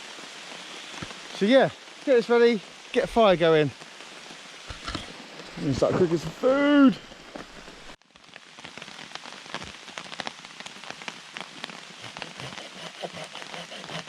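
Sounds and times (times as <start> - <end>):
heavy rain falling: 0.0 - 14.0
raindrops ticking on surface: 0.0 - 14.0.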